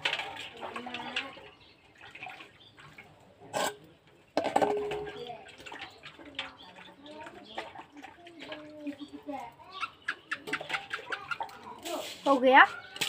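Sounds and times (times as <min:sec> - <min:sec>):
steel bowl clanking on concrete: 0:00.0 - 0:13.0
water splashing in a basin: 0:00.0 - 0:13.0.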